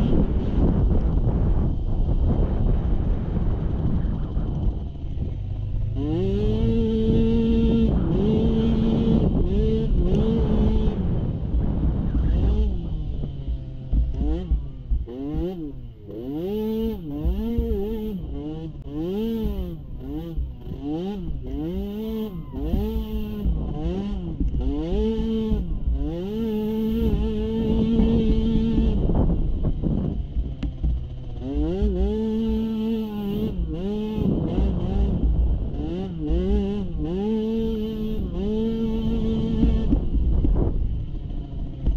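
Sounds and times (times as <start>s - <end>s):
low rumble: 0.0s - 16.3s, 17.0s - 41.9s
small atv engine revving: 0.0s - 41.9s.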